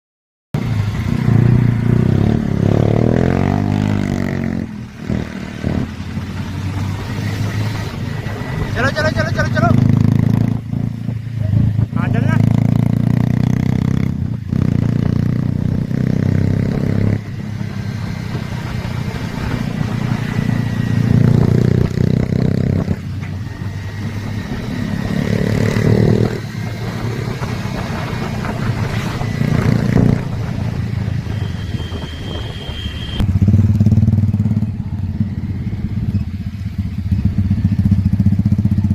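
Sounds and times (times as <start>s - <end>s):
motorcycle engine revving: 0.6s - 38.9s.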